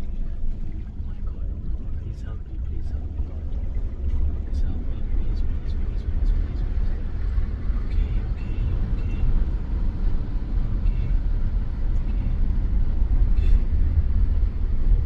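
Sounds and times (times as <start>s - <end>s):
car cabin rumble in floodwater: 0.0s - 15.0s.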